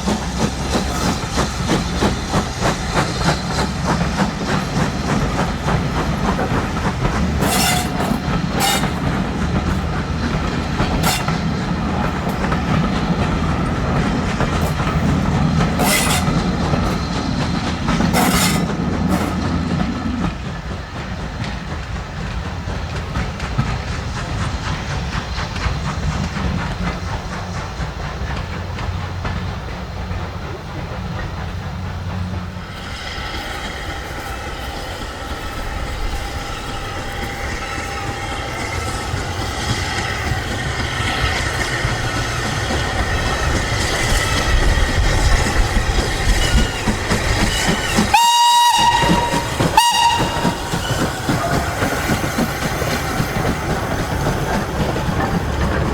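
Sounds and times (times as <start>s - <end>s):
steam train rumbling: 0.0s - 55.9s
wheels clattering over rail joints: 0.0s - 55.9s.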